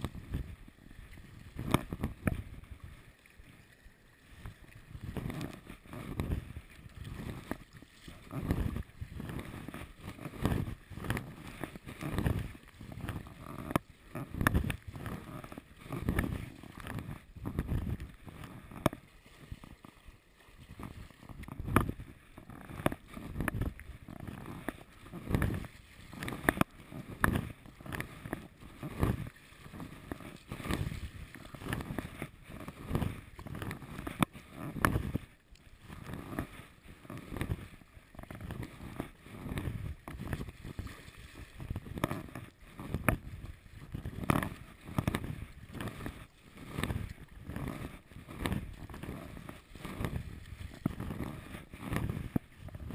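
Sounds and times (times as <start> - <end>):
kayak paddle strokes: 0.0 - 52.9
water splashing against hull: 0.0 - 52.9.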